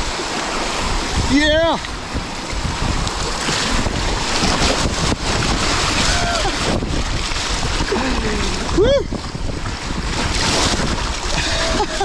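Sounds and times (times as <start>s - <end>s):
whitewater rushing and splashing: 0.0s - 12.0s
wind buffeting microphone: 0.0s - 12.0s.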